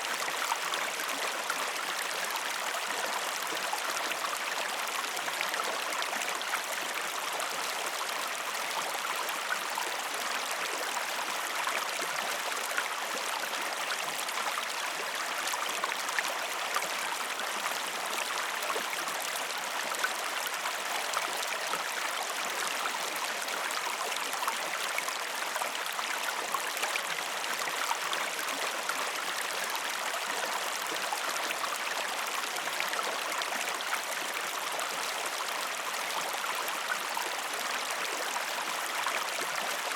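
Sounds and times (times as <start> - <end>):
river flowing gently: 0.0 - 39.9.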